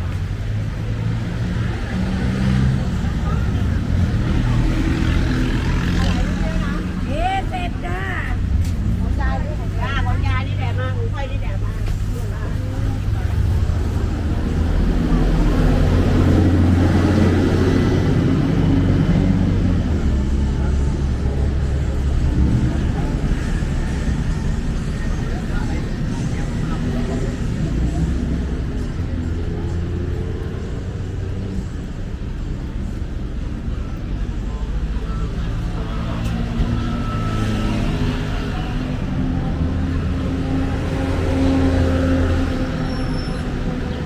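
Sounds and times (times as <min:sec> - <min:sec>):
low engine rumble: 0:00.0 - 0:44.0
street noise: 0:00.0 - 0:44.0.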